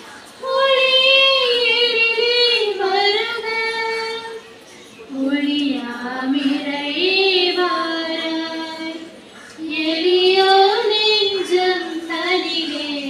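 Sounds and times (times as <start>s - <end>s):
women singing unaccompanied: 0.4s - 4.5s, 5.1s - 13.0s.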